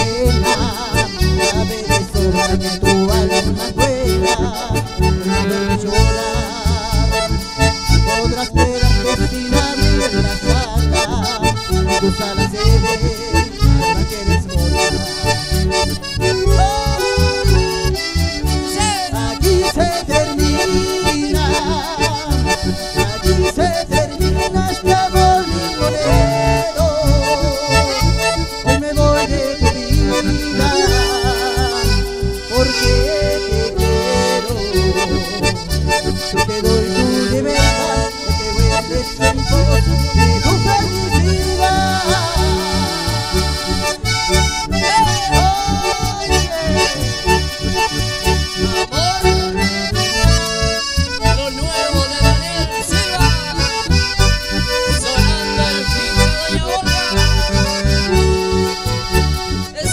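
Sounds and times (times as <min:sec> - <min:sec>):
acoustic guitar: 0:00.0 - 0:59.9
bandoneon: 0:00.0 - 0:59.9
bass guitar: 0:00.0 - 0:59.9
button accordion melody: 0:00.0 - 0:59.9.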